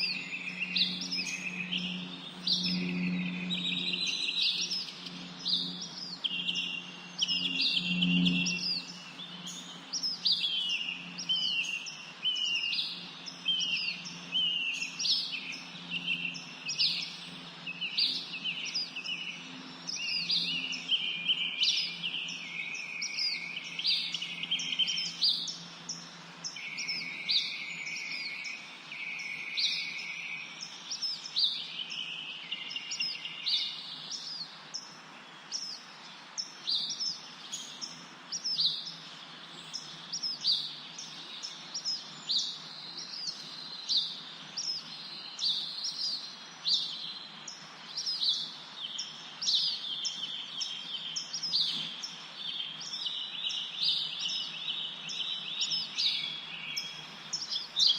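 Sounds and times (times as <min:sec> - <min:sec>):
songbirds chirping and singing: 0:00.0 - 0:57.9.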